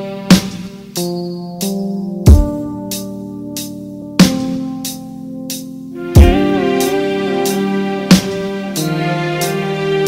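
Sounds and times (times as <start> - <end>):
slow beat background music: 0.0 - 10.0.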